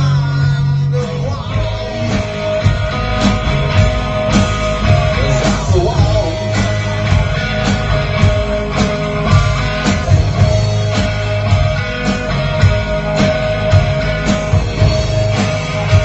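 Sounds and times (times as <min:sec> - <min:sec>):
electric guitar: 0:00.0 - 0:16.0.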